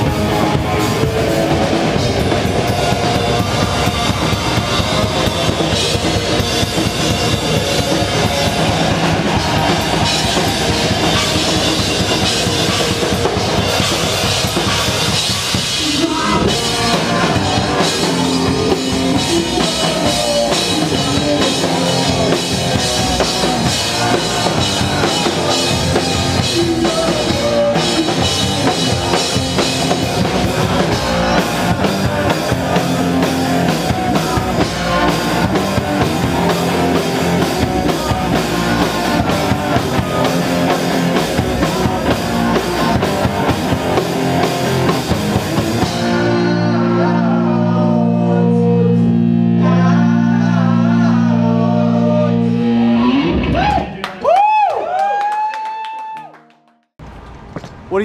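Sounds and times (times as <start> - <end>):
drum kit beat: 0.0 - 47.2
distorted electric guitars: 0.0 - 54.0.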